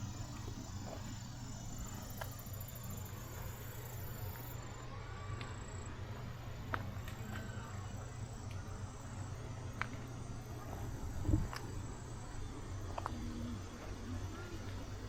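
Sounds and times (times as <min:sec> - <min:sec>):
faint insect chirring: 0:00.0 - 0:15.0.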